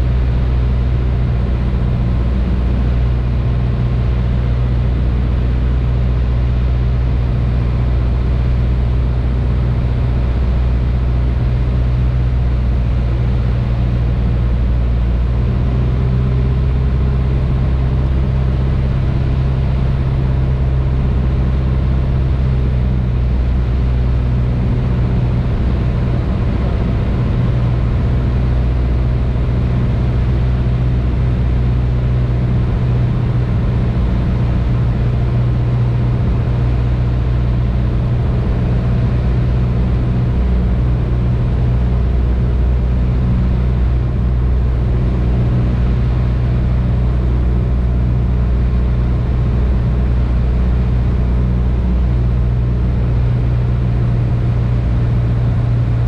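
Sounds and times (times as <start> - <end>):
airplane engine droning in cabin: 0.0 - 56.0.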